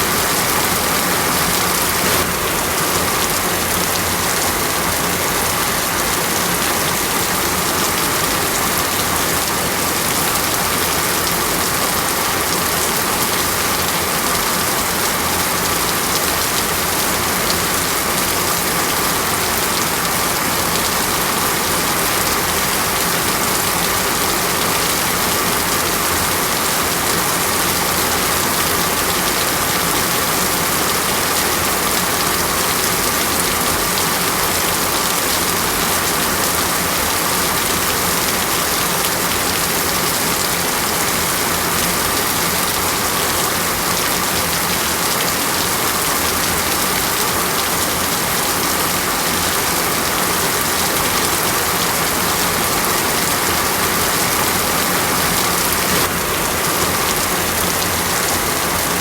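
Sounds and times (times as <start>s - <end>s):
heavy rain in a forest: 0.0s - 59.0s.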